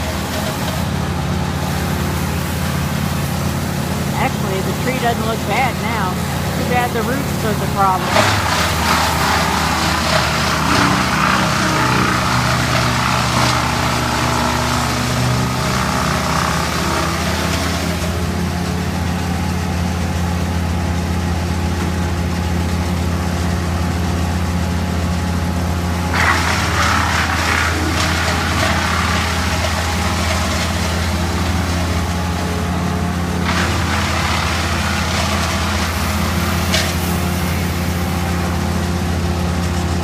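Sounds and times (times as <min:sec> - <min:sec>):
large engine running: 0:00.0 - 0:40.0.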